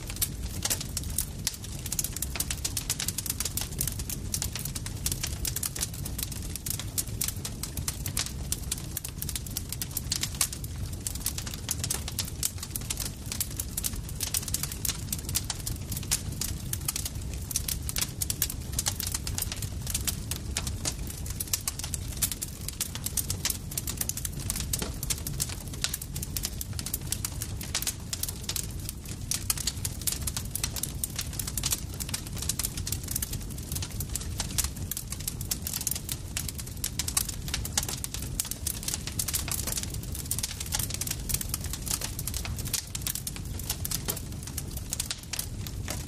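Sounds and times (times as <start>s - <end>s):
burning wood snapping and popping: 0.0s - 46.0s
low rumble of flames: 0.0s - 46.0s.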